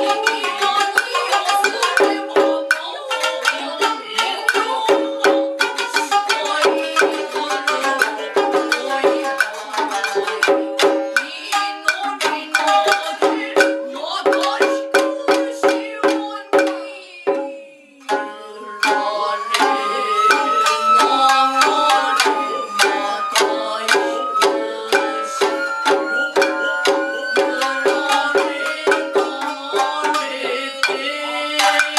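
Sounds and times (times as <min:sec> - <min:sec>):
bamboo flute held tone: 0:00.0 - 0:31.9
drum strokes: 0:00.0 - 0:31.9
shamisen plucks: 0:00.0 - 0:31.9.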